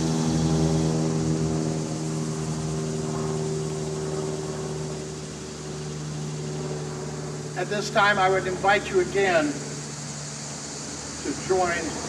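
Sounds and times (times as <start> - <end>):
engine-like drone: 0.0 - 12.0.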